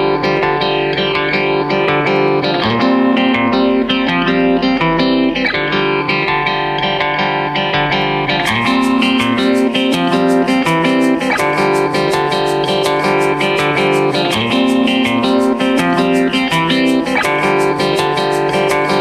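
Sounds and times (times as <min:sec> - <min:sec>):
plucked guitar music: 0:00.0 - 0:19.0.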